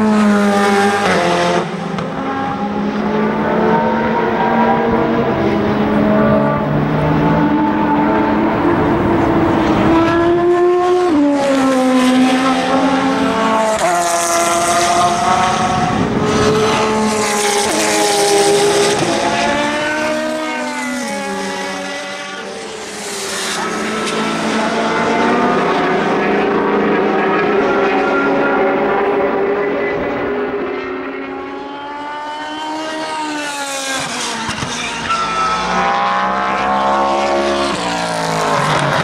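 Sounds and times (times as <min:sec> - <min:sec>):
race cars accelerating past: 0:00.0 - 0:39.0.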